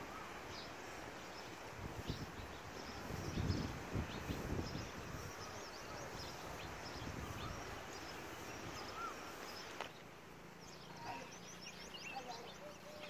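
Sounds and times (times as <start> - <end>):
faint bird chirps: 0.0 - 13.0
outdoor background noise: 0.0 - 13.0.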